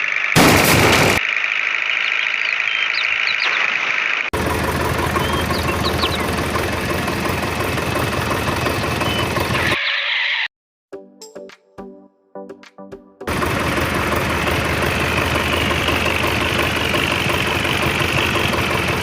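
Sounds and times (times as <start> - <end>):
rough engine-like running noise: 0.0 - 9.8, 13.3 - 19.0.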